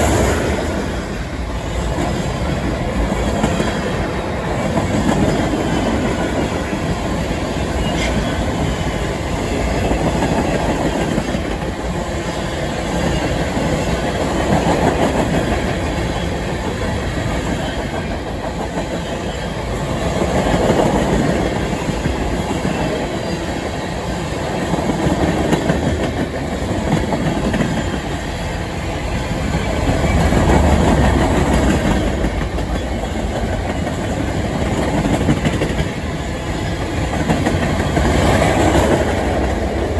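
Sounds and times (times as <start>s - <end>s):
train wheels clattering over rails: 0.0s - 39.9s.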